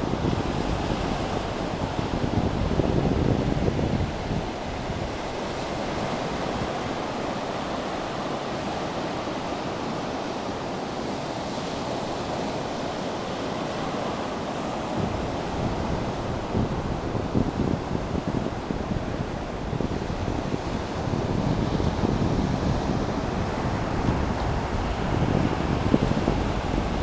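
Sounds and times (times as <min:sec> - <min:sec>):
breaking waves: 0:00.0 - 0:27.0
wind buffeting microphone: 0:00.0 - 0:27.0.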